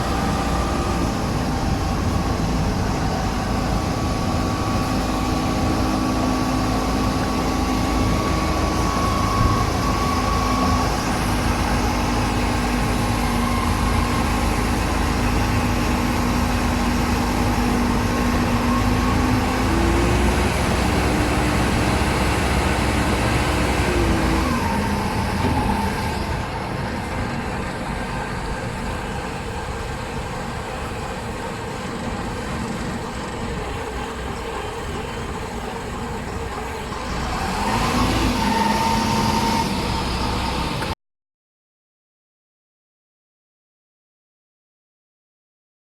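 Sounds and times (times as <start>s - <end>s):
concrete mixer engine whining: 0.0s - 41.0s.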